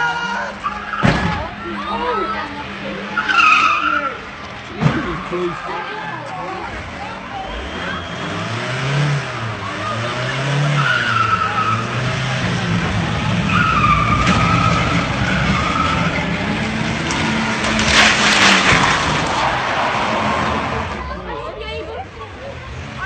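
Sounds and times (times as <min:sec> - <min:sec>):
tyres squealing: 0:00.0 - 0:21.3
car engine revving: 0:00.0 - 0:23.0.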